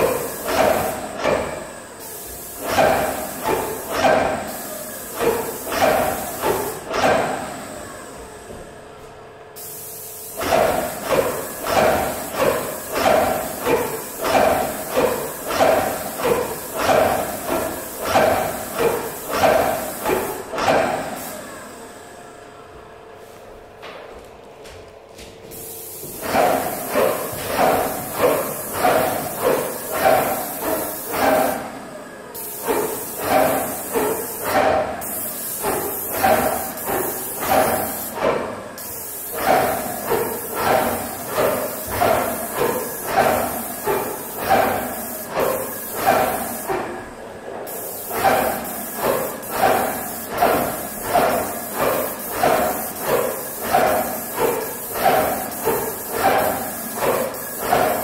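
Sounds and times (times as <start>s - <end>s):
pump knocking strokes: 0.0s - 1.8s, 2.5s - 7.6s, 10.3s - 21.2s, 26.0s - 58.0s
paint spray gun hissing: 0.0s - 7.9s, 9.6s - 21.6s, 25.5s - 46.9s, 47.7s - 58.0s.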